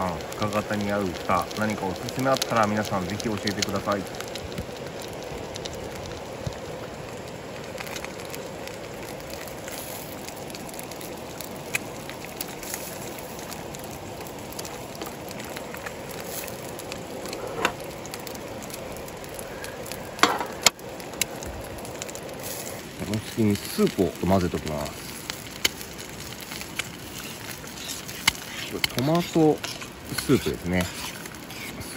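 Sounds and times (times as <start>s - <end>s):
food sizzling in a frying pan: 0.0s - 31.9s.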